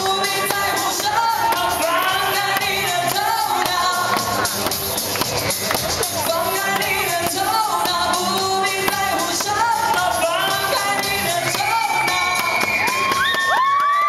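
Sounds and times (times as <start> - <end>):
pop backing track with beat: 0.0 - 14.0.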